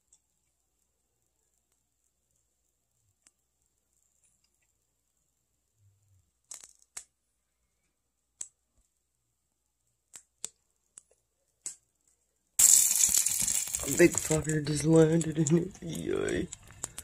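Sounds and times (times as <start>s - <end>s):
candle flame crackling: 0.0s - 17.0s.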